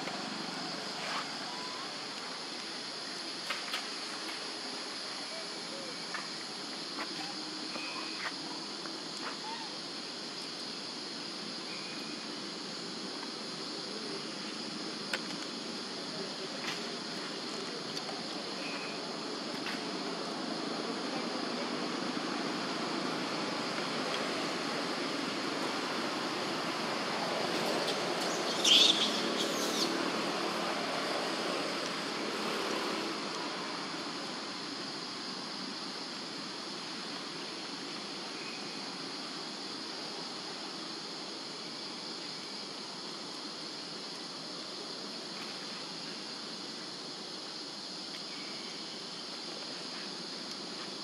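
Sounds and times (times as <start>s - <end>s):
insect chorus droning: 0.0s - 51.0s
outdoor background hiss: 0.0s - 51.0s.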